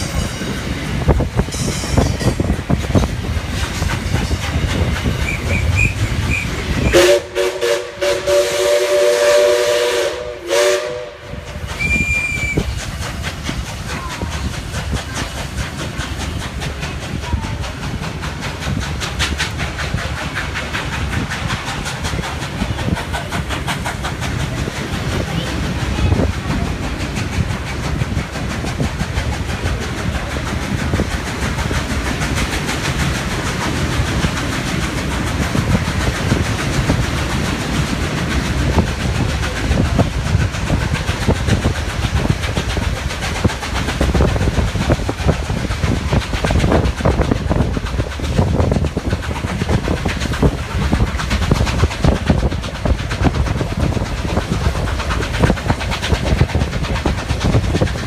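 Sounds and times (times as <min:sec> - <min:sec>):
clickety-clack over rail joints: 0:00.0 - 0:58.0
steam hiss: 0:00.0 - 0:58.0
train wheels rumbling on rails: 0:00.0 - 0:58.0.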